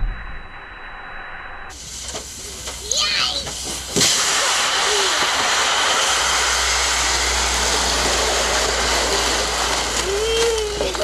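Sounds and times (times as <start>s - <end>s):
plastic sled sliding over snow: 2.0s - 11.0s.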